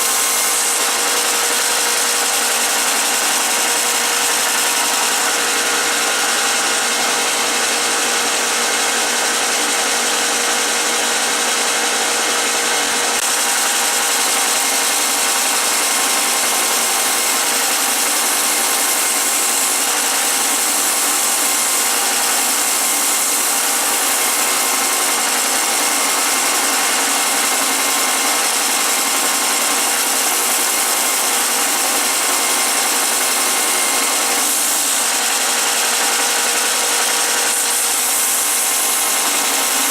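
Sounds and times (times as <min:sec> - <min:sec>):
belt sander motor hum: 0:00.0 - 0:39.9
wood grinding on belt sander: 0:00.0 - 0:39.9.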